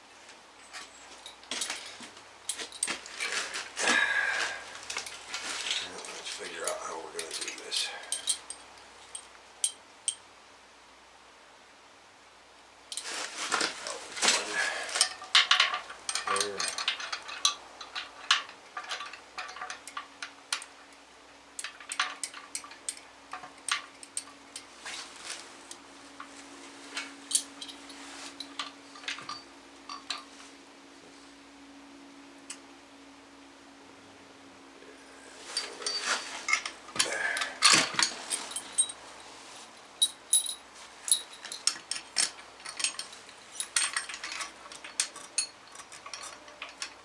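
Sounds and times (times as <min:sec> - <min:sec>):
faint steady hum: 0:00.0 - 0:47.0
metal parts and tools clinking: 0:00.6 - 0:10.2, 0:12.9 - 0:30.6, 0:35.4 - 0:47.0.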